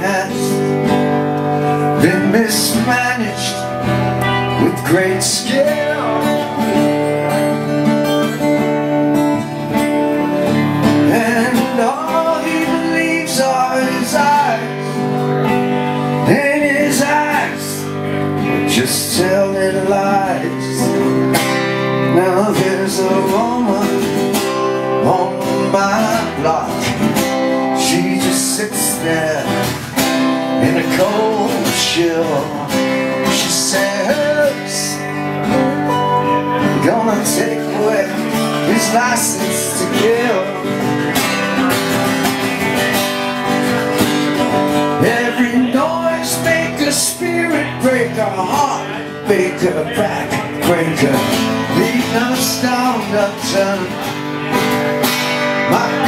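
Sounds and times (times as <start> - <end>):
electric guitar lead line: 0.0 - 56.0
strummed guitar chords: 0.0 - 56.0.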